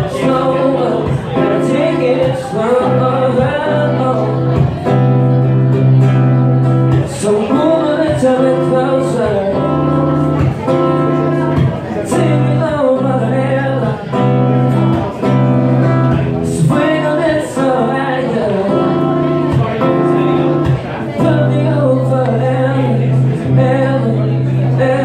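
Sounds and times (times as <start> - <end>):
man singing into microphone: 0.0 - 6.1, 6.9 - 15.4, 16.1 - 25.0
acoustic guitar strumming: 0.0 - 25.0.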